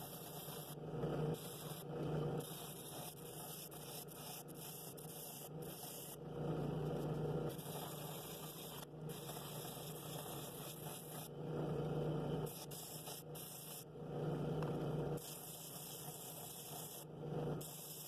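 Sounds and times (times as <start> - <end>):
drill press motor hum: 0.0 - 18.0.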